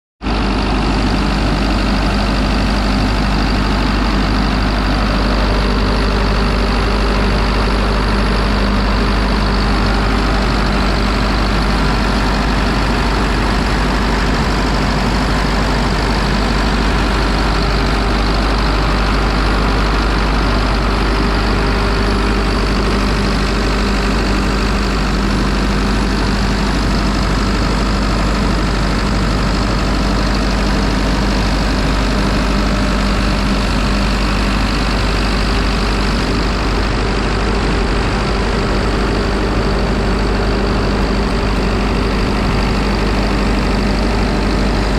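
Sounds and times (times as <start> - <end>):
diesel engine idling: 0.2 - 44.9.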